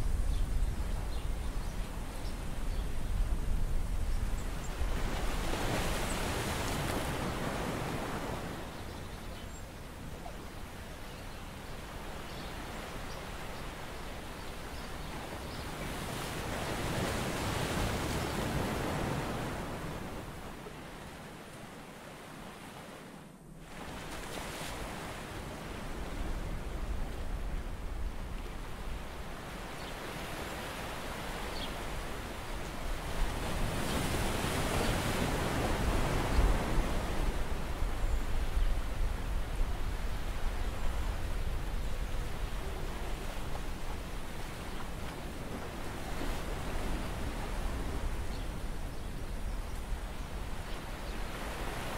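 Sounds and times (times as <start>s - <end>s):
rushing shallow seawater: 0.0s - 51.9s.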